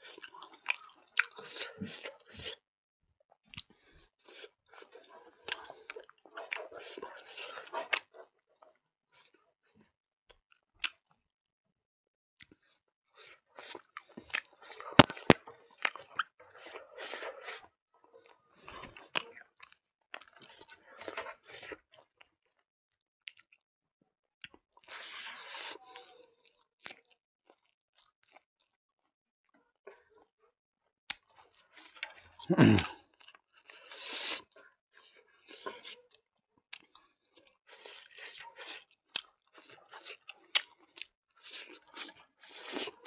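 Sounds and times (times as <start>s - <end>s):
person chewing and crunching food: 0.0s - 2.6s, 3.4s - 9.8s, 12.4s - 22.6s, 23.2s - 23.6s, 24.4s - 30.3s, 31.1s - 43.0s.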